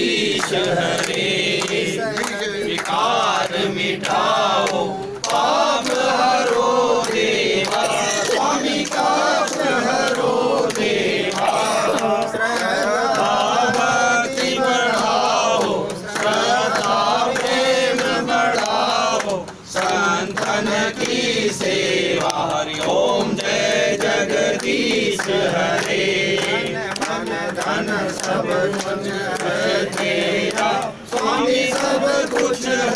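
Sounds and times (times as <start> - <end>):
group chanting a hymn: 0.0 - 32.9.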